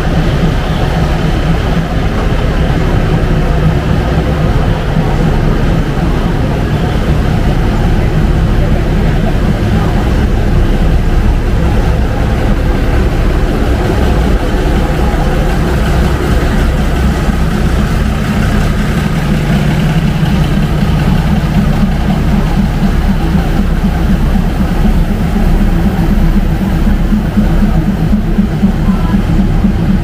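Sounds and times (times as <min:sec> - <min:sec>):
large engine idling: 0:00.0 - 0:30.0.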